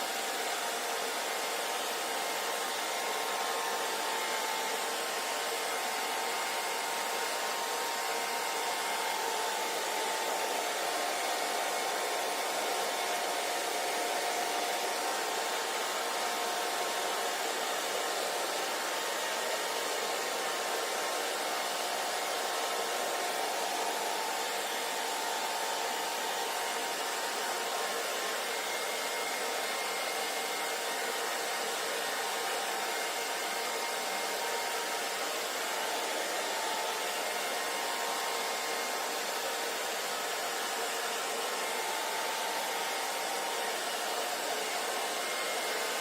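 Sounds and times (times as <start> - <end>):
hair dryer running: 0.0 - 46.0.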